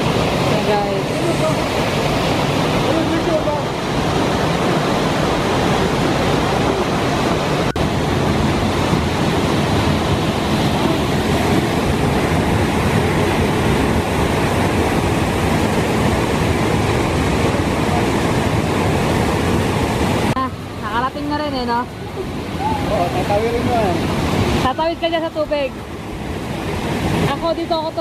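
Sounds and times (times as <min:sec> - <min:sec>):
fast-flowing creek: 0:00.0 - 0:28.0
waterfall rushing: 0:00.0 - 0:28.0.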